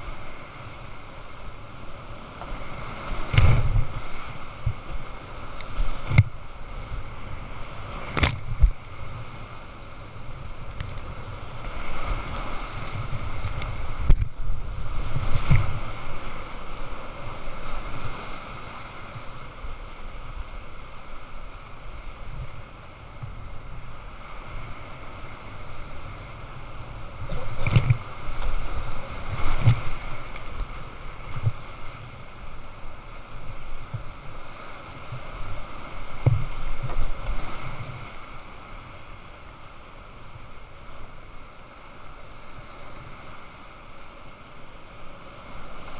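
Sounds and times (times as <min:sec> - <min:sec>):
wind noise on microphone: 0:00.0 - 0:44.1
waves splashing over boat: 0:00.0 - 0:45.9.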